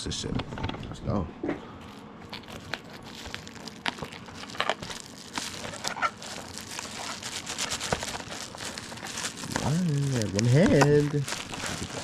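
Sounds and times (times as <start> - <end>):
plastic packaging crinkling: 1.8 - 12.0
sharp plastic rustles: 1.8 - 12.0.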